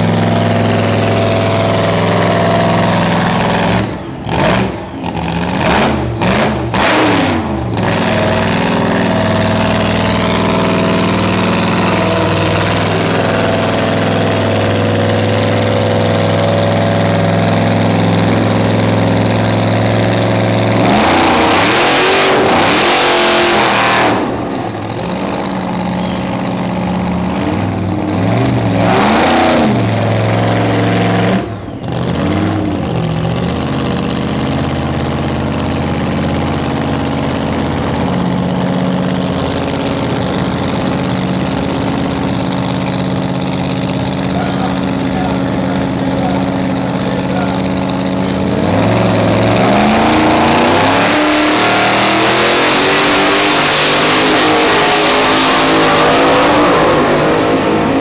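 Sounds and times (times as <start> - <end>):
drag car engine idling and revving: 0.0 - 58.0.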